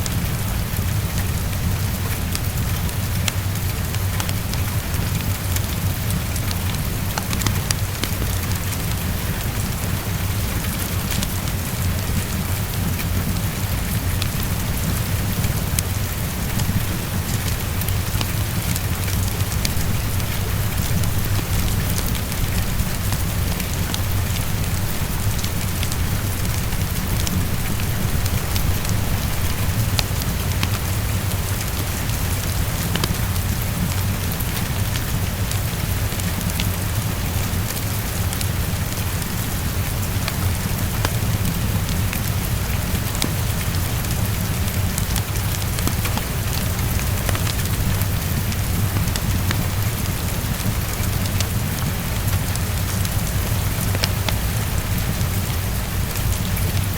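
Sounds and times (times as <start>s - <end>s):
heavy rainfall: 0.0s - 56.9s
wood fire crackling: 0.0s - 56.9s.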